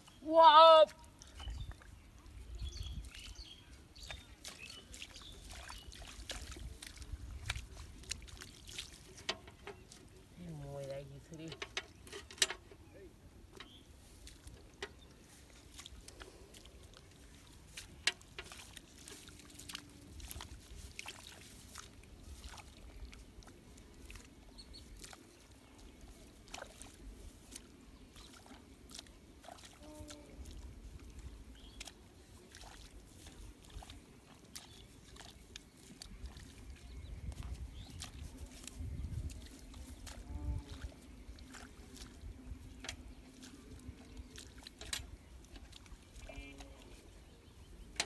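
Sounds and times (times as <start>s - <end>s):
hands splashing in muddy water: 4.0s - 10.2s, 14.1s - 48.0s.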